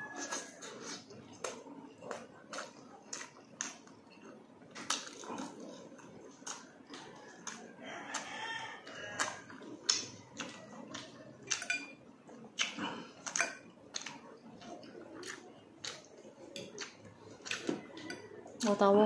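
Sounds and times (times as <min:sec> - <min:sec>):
wet chewing: 0:00.0 - 0:18.8.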